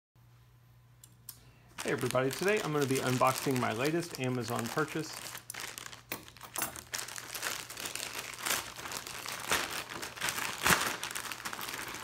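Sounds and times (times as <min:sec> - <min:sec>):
plastic mailer bag crinkling: 0:01.8 - 0:12.0.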